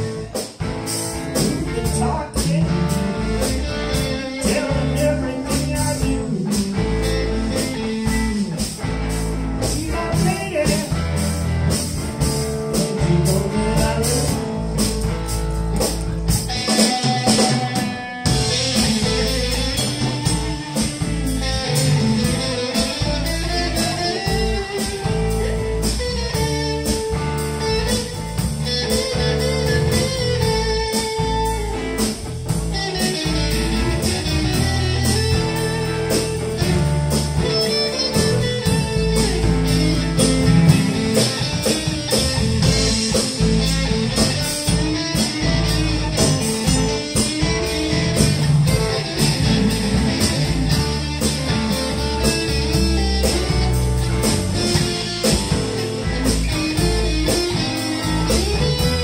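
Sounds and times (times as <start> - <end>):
blues band playing: 0.0 - 59.0
electric guitar note bends: 0.0 - 59.0
steady drum beat: 0.0 - 59.0.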